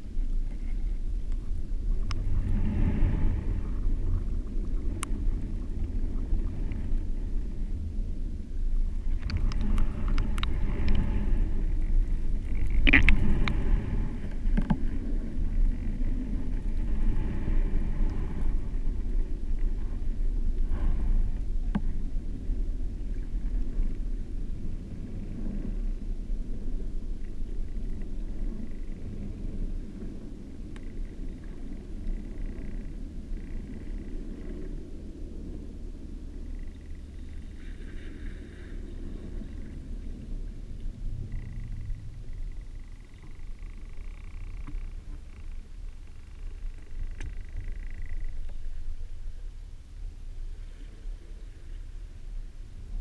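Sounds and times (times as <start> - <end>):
underwater surge rumble: 0.0 - 49.5.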